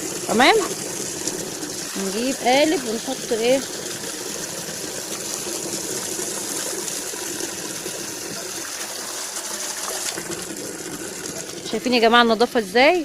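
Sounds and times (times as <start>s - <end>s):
water filling a container: 0.0s - 13.0s.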